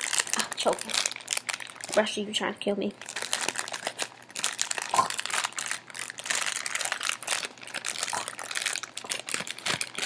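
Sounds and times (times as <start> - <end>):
plastic candy bag crackling: 0.0 - 10.0.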